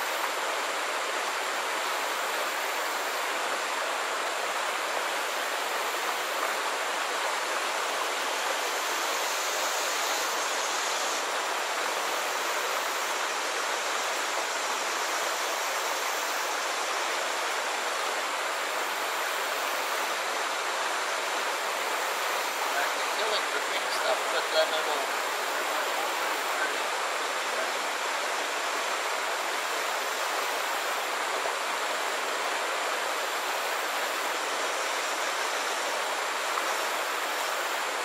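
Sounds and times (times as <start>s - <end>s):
water rushing over rocks: 0.0s - 38.0s.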